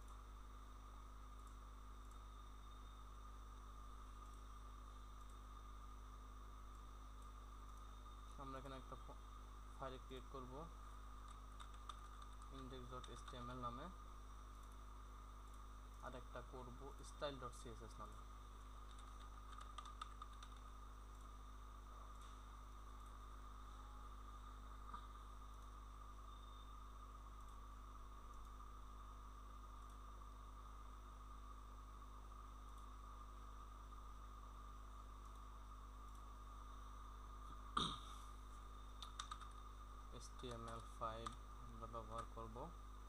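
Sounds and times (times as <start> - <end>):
low electrical hum with hiss: 0.0 - 43.0.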